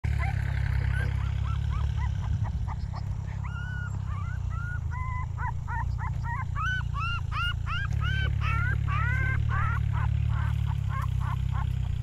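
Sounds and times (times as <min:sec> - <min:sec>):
steady low rumble: 0:00.1 - 0:11.0
puppy whimpering and yelping: 0:00.1 - 0:12.0.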